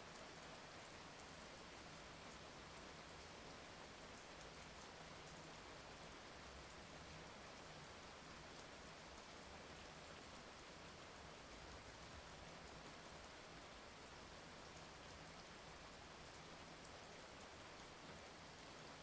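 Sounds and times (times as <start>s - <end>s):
quiet rain falling: 0.0s - 19.0s.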